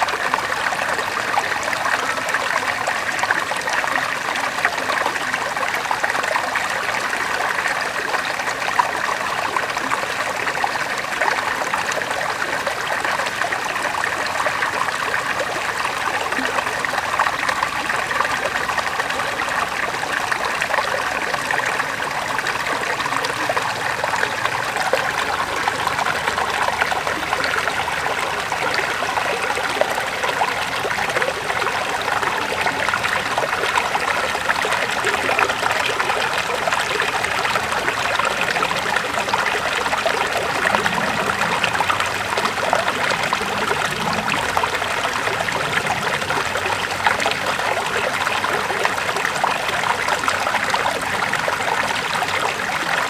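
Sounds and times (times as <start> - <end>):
river flowing over stones: 0.0 - 53.0.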